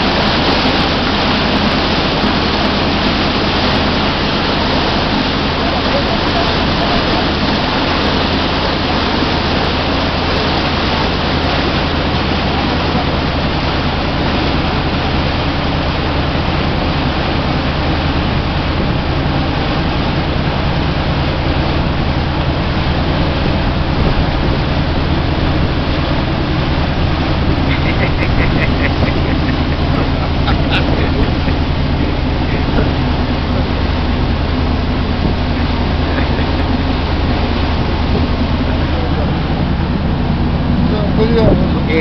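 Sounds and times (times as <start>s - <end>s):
boat engine hum: 0.0s - 42.0s
water rushing from wake: 0.0s - 42.0s.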